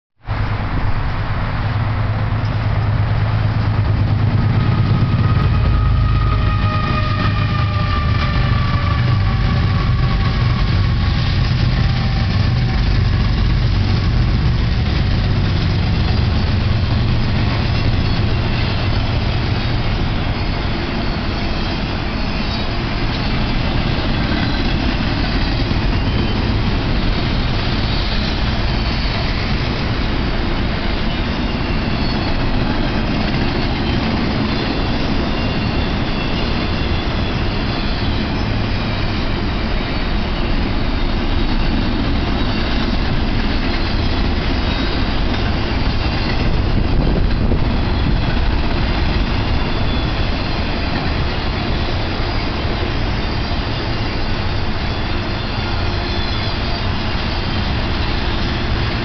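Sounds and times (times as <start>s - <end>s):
diesel locomotive rumble and whine: 0.2s - 59.0s
freight cars wheel-on-rail noise: 0.2s - 59.0s.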